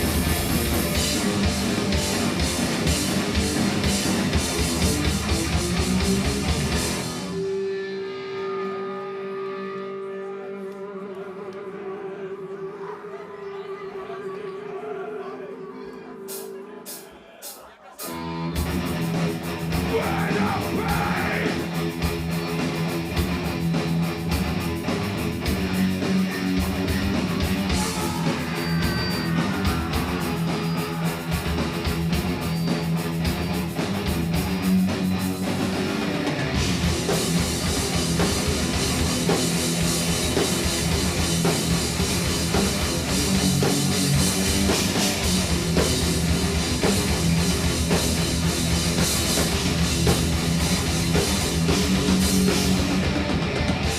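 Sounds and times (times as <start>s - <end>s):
drum kit: 0.0s - 8.0s, 16.3s - 53.9s
distorted electric guitars: 0.0s - 12.9s, 18.0s - 53.9s.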